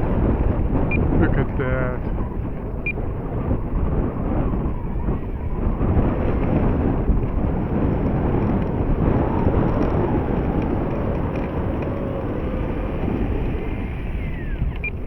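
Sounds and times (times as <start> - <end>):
wind buffeting microphone: 0.0 - 15.0
model plane motor whine: 2.1 - 15.0.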